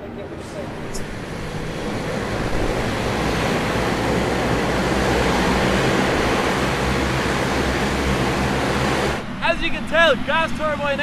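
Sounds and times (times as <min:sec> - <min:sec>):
turboprop engines roaring: 0:00.0 - 0:11.0.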